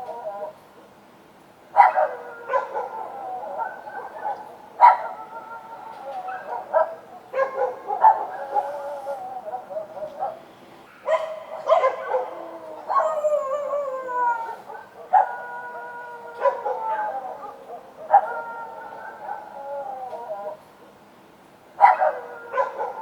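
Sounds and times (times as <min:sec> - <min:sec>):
dogs barking and howling: 0:00.0 - 0:00.6, 0:01.7 - 0:20.7, 0:21.8 - 0:23.0.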